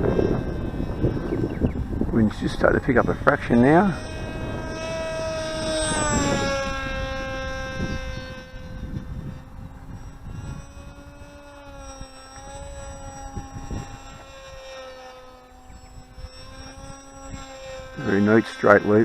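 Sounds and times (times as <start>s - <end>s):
model aircraft propeller whine: 0.0s - 19.0s
wind rumbling on microphone: 0.0s - 19.0s.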